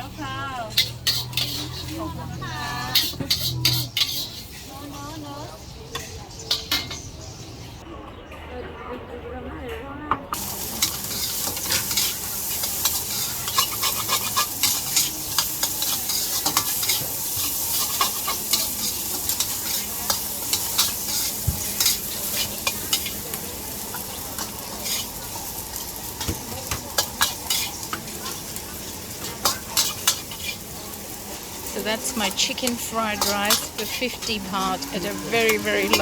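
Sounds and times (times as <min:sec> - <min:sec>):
rice sizzling in a wok: 0:00.0 - 0:07.8, 0:10.4 - 0:36.0
metal spatula scraping a pan: 0:00.6 - 0:05.0, 0:10.4 - 0:23.3, 0:23.9 - 0:36.0.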